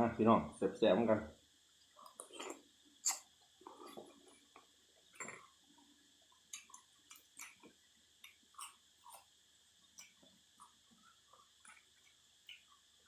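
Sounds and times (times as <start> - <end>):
person chewing and slurping: 1.8 - 13.0.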